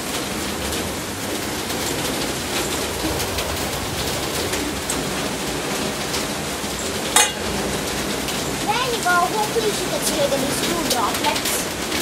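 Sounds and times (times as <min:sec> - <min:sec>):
heavy rain falling: 0:00.0 - 0:12.0
raindrops ticking: 0:00.0 - 0:12.0.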